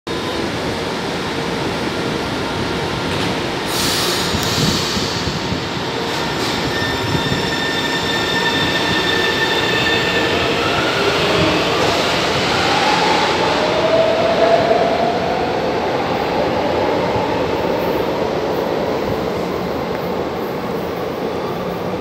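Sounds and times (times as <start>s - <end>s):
metro train rumbling: 0.1s - 22.0s.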